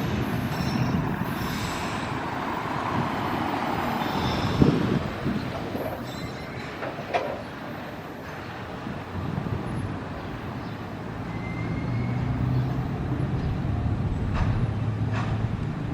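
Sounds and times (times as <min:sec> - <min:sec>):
freight train rumbling past: 0:00.0 - 0:15.9.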